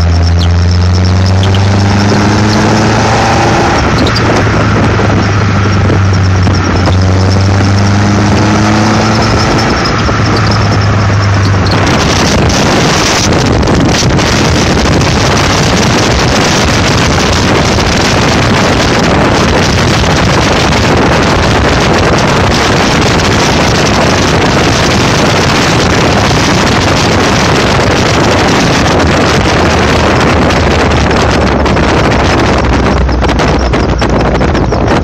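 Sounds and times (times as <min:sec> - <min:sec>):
car engine running: 0:00.0 - 0:35.0
wind noise on microphone: 0:00.0 - 0:35.0.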